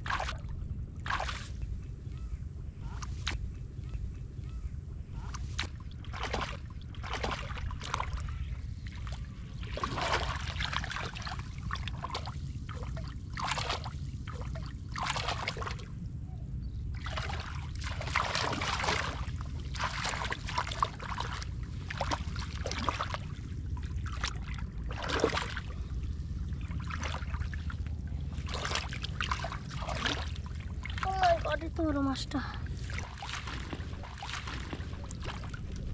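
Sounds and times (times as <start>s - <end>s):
splashing in muddy water: 0.0s - 1.7s, 5.1s - 16.0s, 16.9s - 35.9s
steady low rumble: 0.0s - 35.9s.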